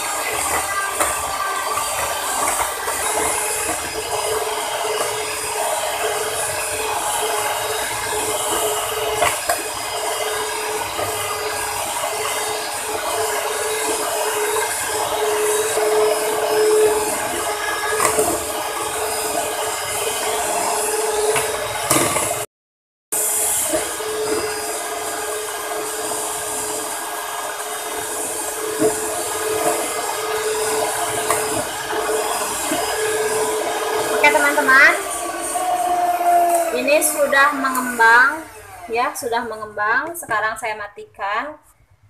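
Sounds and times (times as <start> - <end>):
electric hand mixer running: 0.0 - 22.5, 23.1 - 40.4.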